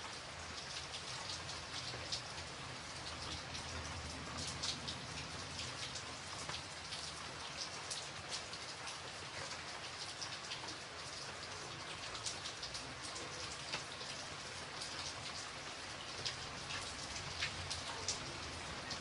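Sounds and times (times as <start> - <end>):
raindrops striking nearby: 0.0 - 19.0
steady rainfall hiss: 0.0 - 19.0.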